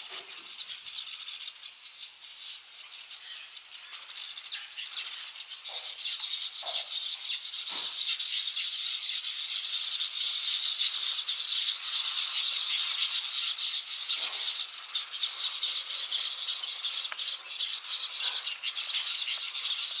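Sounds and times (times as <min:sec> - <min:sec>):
birds chattering: 0:00.0 - 0:20.0.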